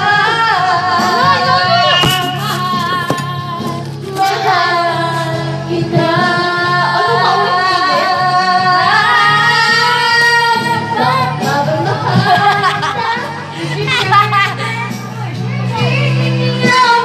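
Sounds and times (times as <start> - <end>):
steady musical accompaniment: 0.0 - 17.0.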